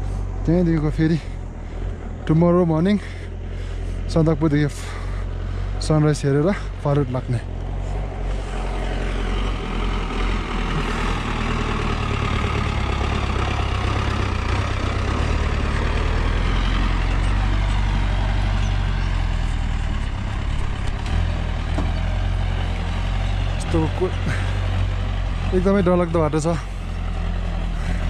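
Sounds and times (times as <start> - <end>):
off-road vehicle engine climbing: 0.0 - 28.0.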